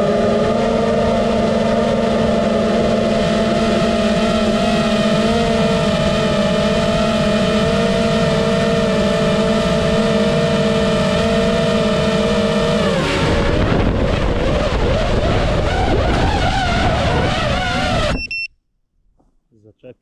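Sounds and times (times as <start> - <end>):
drone propellers whining: 0.0 - 18.5.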